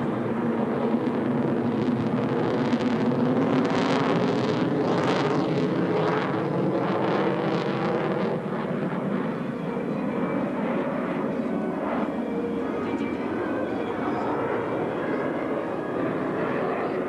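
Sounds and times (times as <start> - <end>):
jet engine rush: 0.0 - 17.0.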